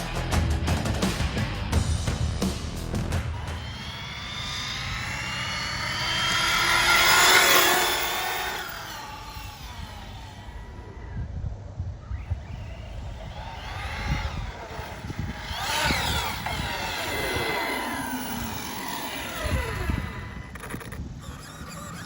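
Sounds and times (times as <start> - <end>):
electric motor whining: 3.2 - 11.4, 12.0 - 22.0.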